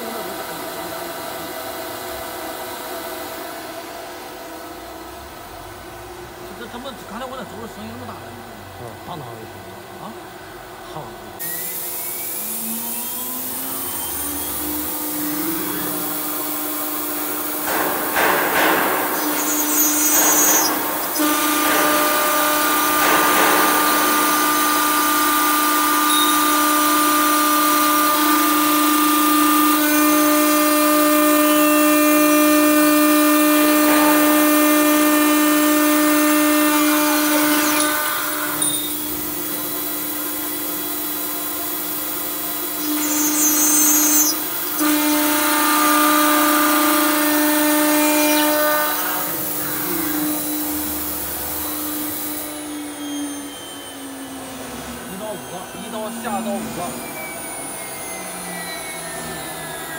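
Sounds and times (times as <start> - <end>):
milling machine spindle whine: 0.0 - 59.9.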